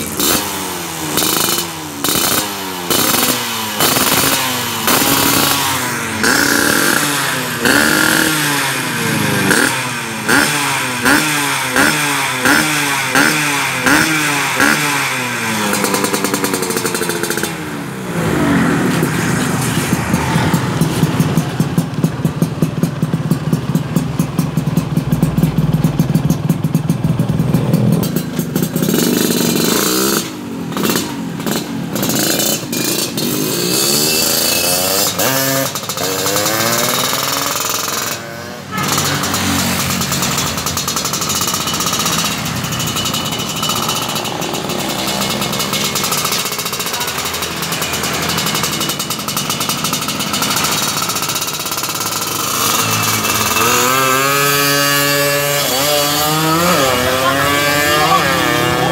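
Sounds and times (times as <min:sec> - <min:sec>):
two-stroke motorcycle engine revving: 0:00.0 - 0:58.9.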